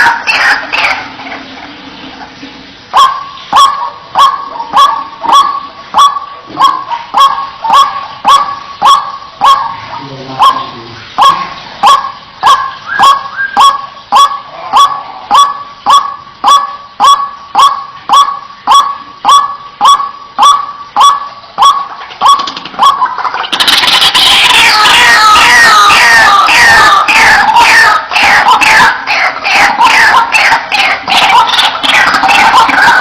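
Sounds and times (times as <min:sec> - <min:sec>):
overlapping bird calls: 0:00.0 - 0:33.0
waterhen calling: 0:00.0 - 0:33.0.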